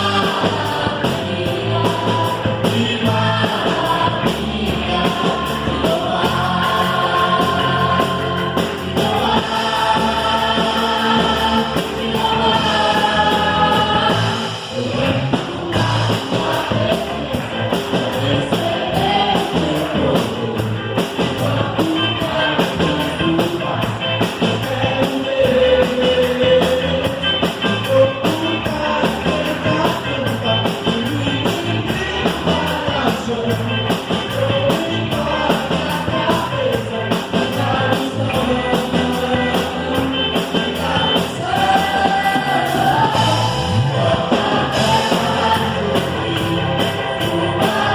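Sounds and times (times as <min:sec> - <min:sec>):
drums and cymbals: 0:00.0 - 0:47.9
group of singers: 0:00.0 - 0:47.9
worship band playing: 0:00.0 - 0:47.9.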